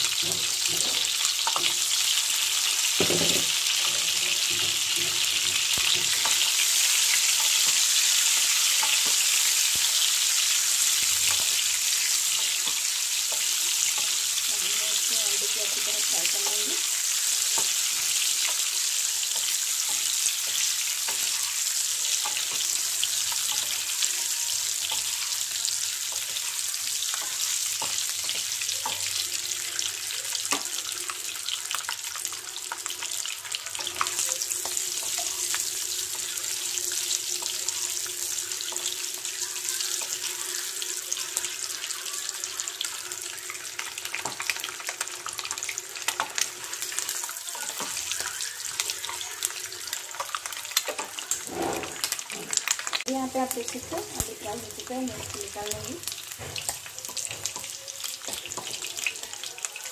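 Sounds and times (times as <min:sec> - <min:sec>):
eggs sizzling in hot oil: 0:00.0 - 0:59.9.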